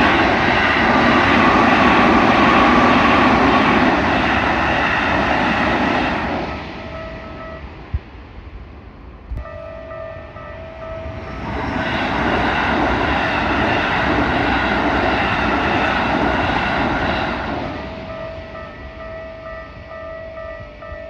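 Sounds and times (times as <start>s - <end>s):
level-crossing warning bell: 0.0s - 8.2s, 9.4s - 21.0s
train passing: 0.0s - 21.0s.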